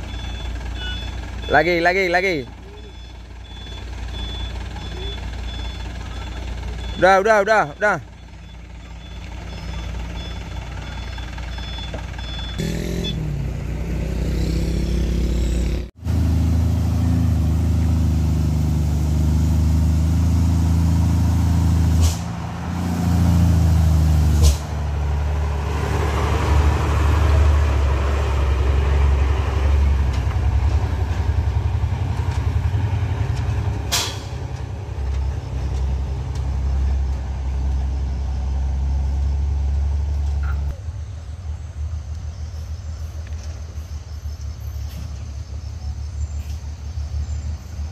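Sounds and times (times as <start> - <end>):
diesel truck engine drone: 0.0 - 47.9.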